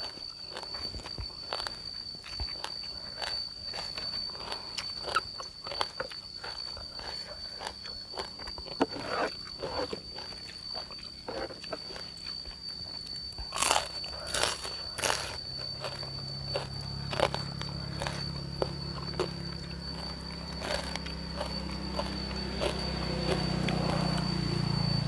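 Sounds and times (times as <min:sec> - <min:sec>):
crunching crispy pork: 0:00.0 - 0:25.0
high-pitched whine: 0:00.0 - 0:25.0.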